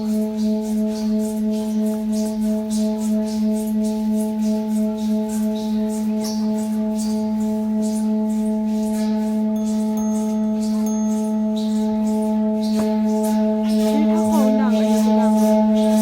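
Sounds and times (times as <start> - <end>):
gong humming low drone: 0.0 - 16.0.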